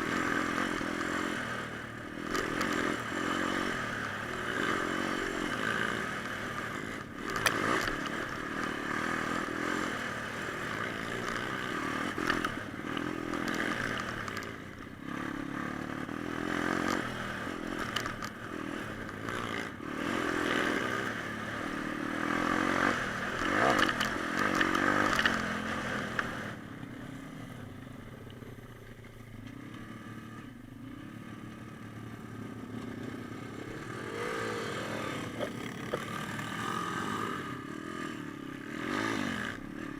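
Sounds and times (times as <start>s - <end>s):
pit bike engine revving: 0.0s - 26.6s, 29.5s - 39.9s.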